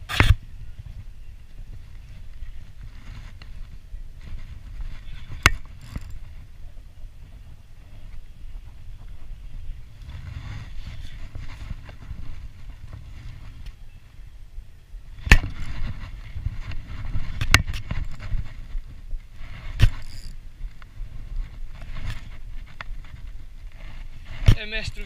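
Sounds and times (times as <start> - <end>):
camera rubbing against clothing: 1.7 - 13.8, 15.3 - 25.0.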